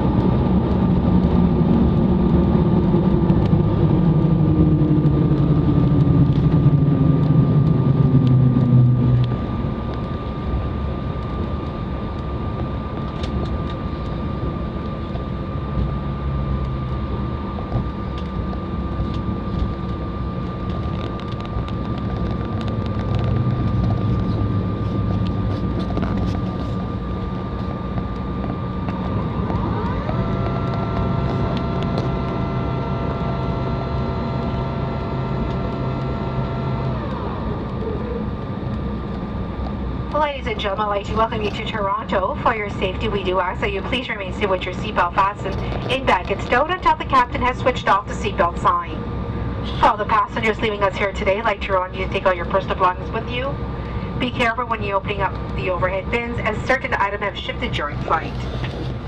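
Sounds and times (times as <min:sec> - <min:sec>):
airliner engines winding down: 0:00.0 - 0:59.0
thin constant whine: 0:00.0 - 0:59.0.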